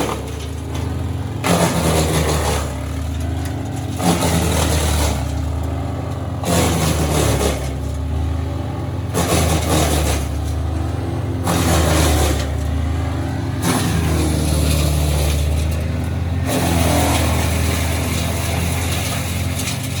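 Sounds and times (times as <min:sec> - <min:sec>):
wood being chipped: 0:00.0 - 0:20.0
wood chipper engine drone: 0:00.0 - 0:20.0.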